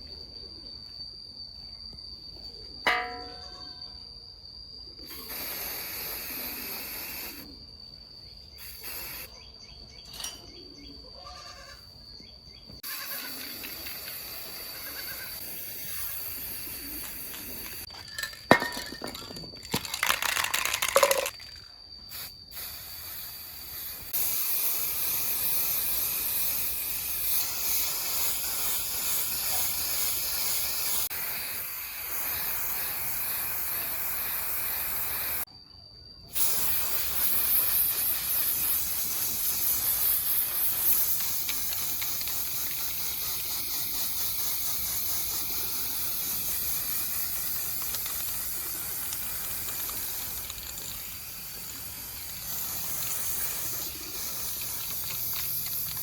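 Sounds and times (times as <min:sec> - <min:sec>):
high-pitched spray hiss: 0:04.9 - 0:07.7, 0:08.4 - 0:09.4, 0:12.8 - 0:35.5, 0:36.3 - 0:56.0.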